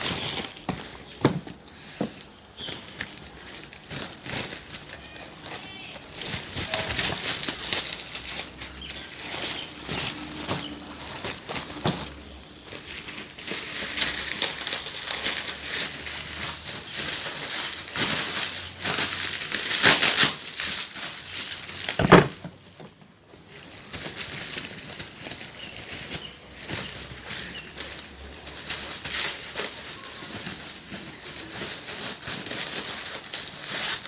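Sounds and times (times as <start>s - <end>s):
plastic wrap crinkling: 0.0s - 34.0s.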